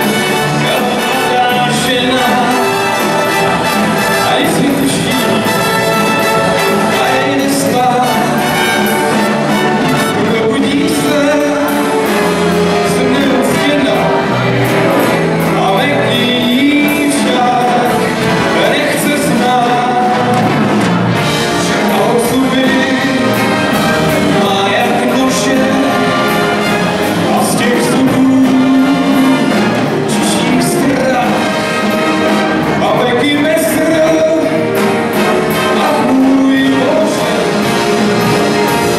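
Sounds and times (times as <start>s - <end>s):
person singing: 0.0s - 20.5s, 21.4s - 32.0s, 32.6s - 38.2s
big band playing: 0.0s - 38.9s.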